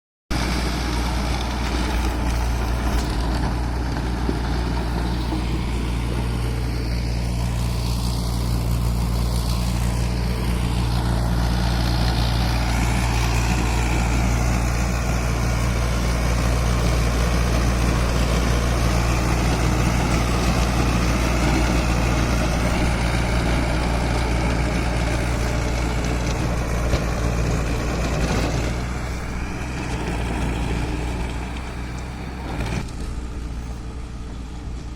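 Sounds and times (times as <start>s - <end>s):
rough churning noise: 0.3s - 33.8s
tractor diesel engine running: 0.3s - 34.9s.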